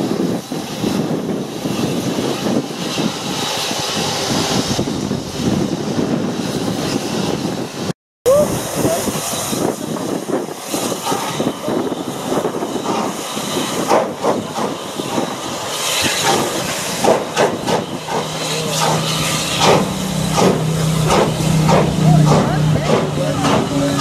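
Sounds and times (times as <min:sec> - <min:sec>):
steam locomotive chuffing: 0:00.0 - 0:24.0
steam locomotive hissing: 0:00.0 - 0:24.0.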